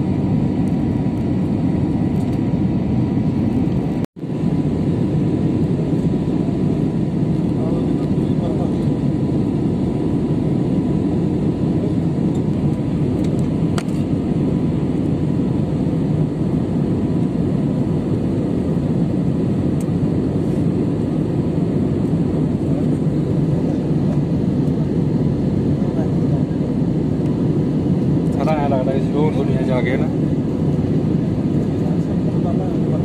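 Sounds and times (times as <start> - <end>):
jet airliner cabin rumble: 0.0 - 33.0.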